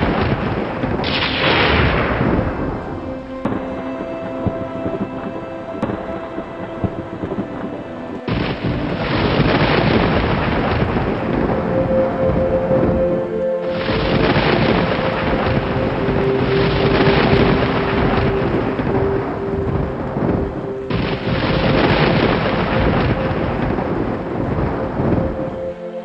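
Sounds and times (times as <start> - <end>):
heavy rain: 0.0 - 26.0
soft sustained music notes: 0.0 - 26.0
thunder rumbling: 0.0 - 26.0.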